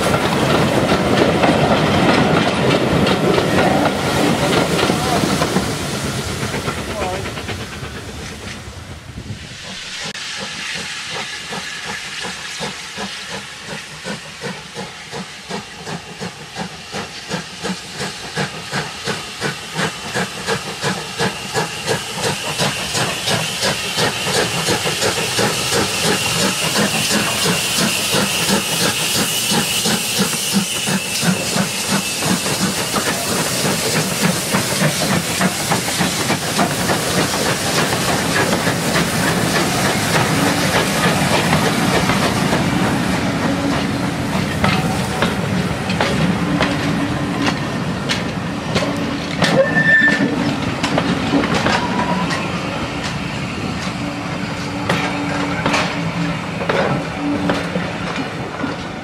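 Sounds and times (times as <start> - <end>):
hiss of steam: 0.0 - 59.0
steam locomotive exhaust beats: 0.0 - 59.0
train coaches rolling by: 0.0 - 59.0.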